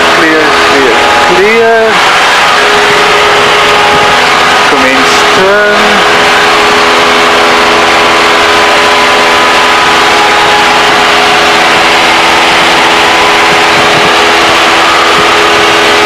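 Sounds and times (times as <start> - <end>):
airplane engine drone in cabin: 0.0 - 16.0.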